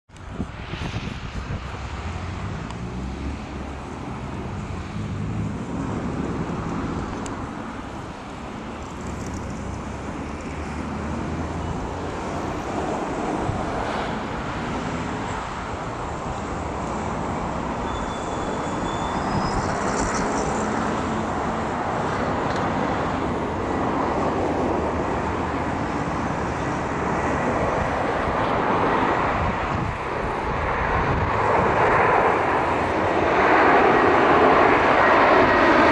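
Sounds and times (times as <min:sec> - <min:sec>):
propeller aircraft engine drone: 0:00.1 - 0:35.9
road traffic noise: 0:00.1 - 0:35.9.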